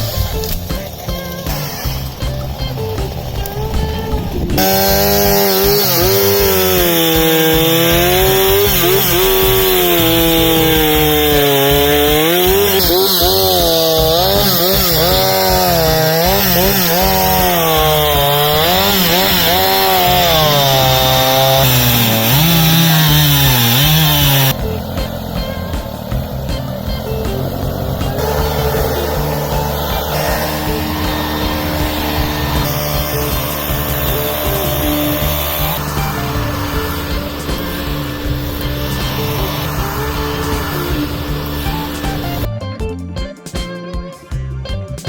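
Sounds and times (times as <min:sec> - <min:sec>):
chainsaw cutting wood: 0:00.0 - 0:42.5.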